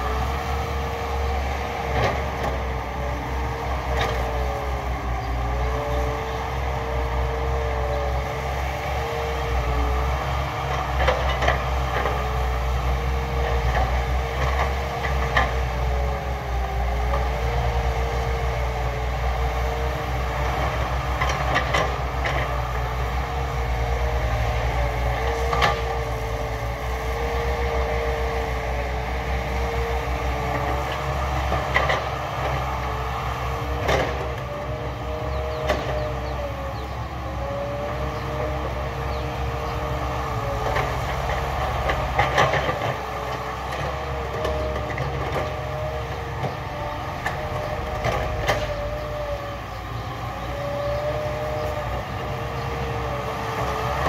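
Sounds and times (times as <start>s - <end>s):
excavator diesel engine under load: 0.0s - 54.0s.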